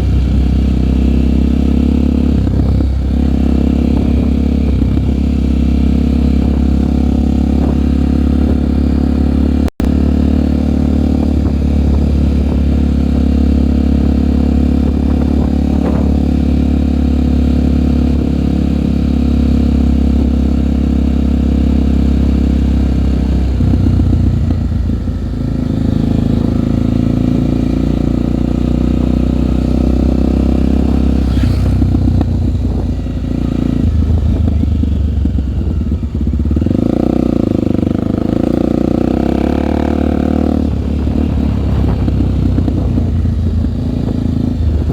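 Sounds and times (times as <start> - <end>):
motorbike engine running: 0.0 - 44.9.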